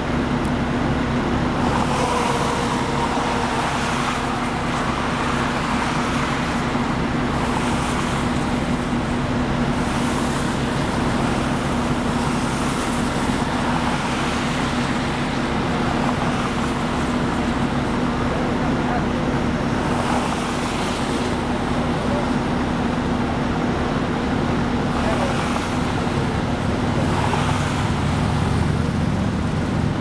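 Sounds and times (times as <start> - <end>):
highway traffic passing: 0.0 - 30.0.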